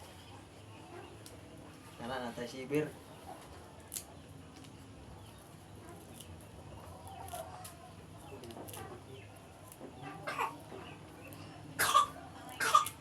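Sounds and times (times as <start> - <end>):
chickens clucking faintly: 0.0 - 13.0.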